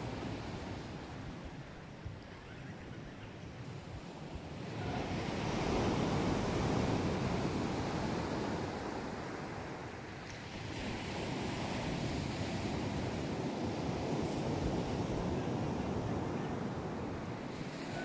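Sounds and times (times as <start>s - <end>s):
sea surf washing on shore: 0.0s - 2.3s, 3.7s - 18.0s.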